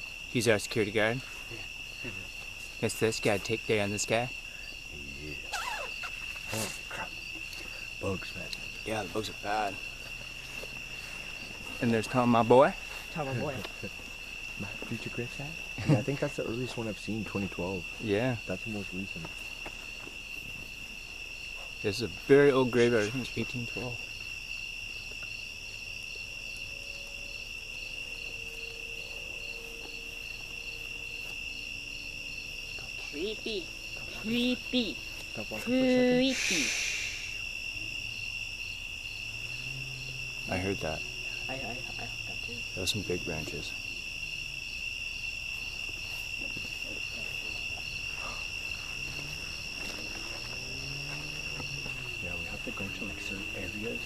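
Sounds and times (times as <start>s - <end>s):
insects trilling: 0.0s - 54.0s
pulsed insect call: 0.0s - 54.0s.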